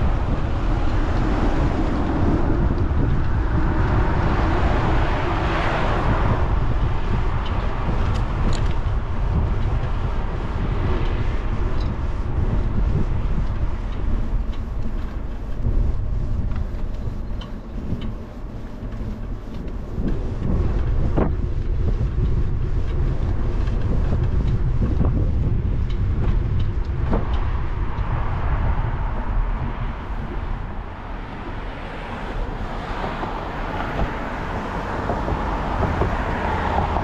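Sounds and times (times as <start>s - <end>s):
wind rumbling over microphone: 0.0s - 37.0s.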